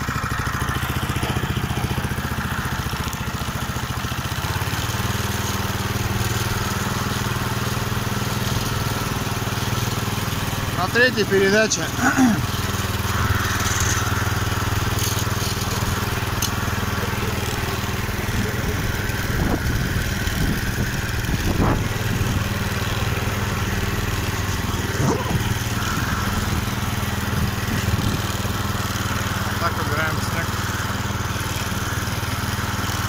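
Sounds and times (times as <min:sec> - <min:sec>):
single-cylinder engine running: 0:00.0 - 0:33.0.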